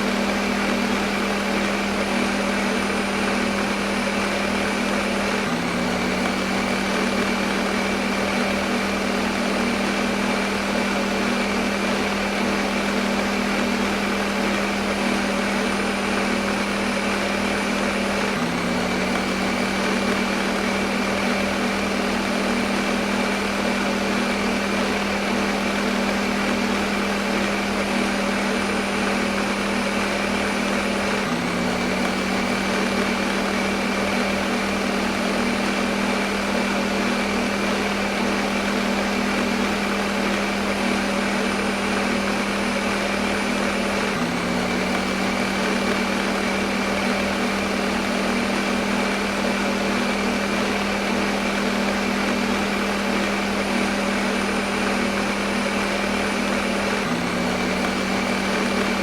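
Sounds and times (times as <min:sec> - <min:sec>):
electric blender motor whirring: 0:00.0 - 0:59.0.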